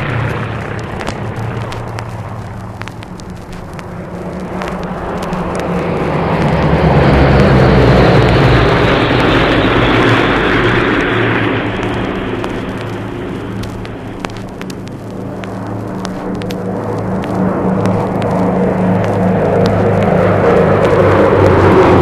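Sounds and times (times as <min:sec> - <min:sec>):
aircraft engines passing: 0:00.0 - 0:22.0
record crackle and pops: 0:00.0 - 0:22.0.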